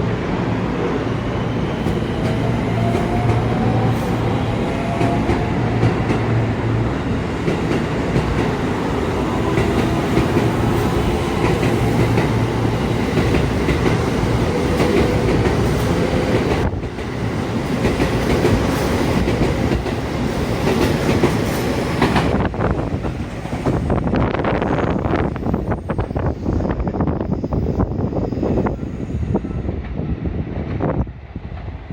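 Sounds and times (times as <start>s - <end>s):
train rolling noise: 0.0s - 31.9s.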